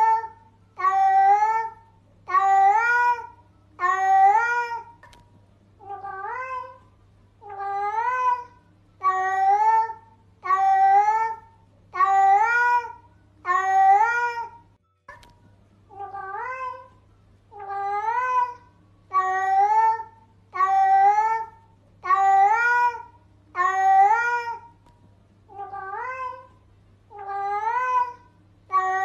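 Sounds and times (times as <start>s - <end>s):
cat meowing: 0.0s - 5.0s, 5.8s - 6.8s, 7.4s - 11.4s, 12.0s - 14.6s, 15.9s - 24.7s, 25.5s - 29.0s.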